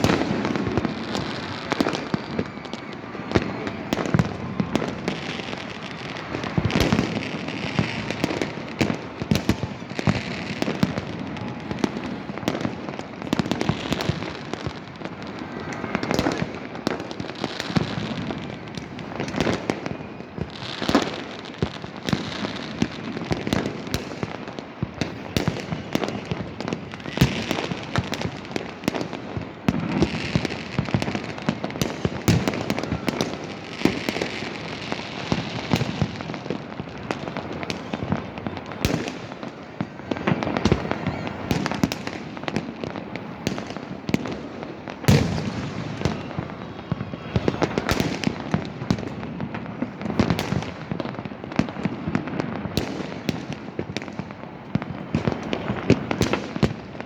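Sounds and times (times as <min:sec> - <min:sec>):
loud single firework bangs: 0:00.0 - 0:56.9
fireworks bangs and crackling: 0:00.0 - 0:57.0.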